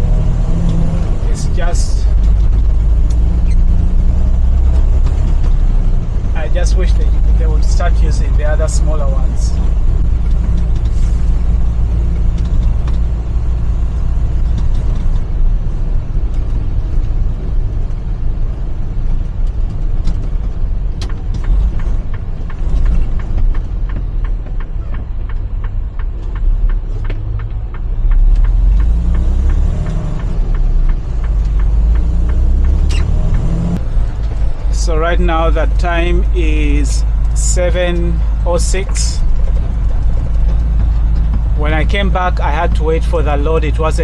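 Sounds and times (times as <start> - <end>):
diesel engine rumbling: 0.0 - 44.0.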